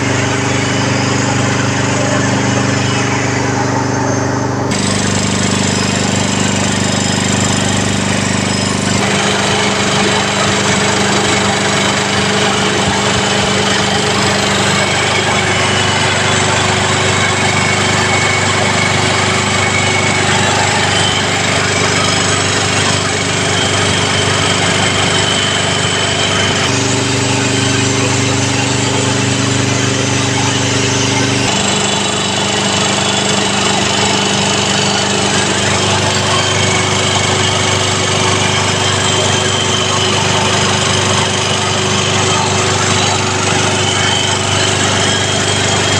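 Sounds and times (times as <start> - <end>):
air compressor running: 0.0 - 45.9.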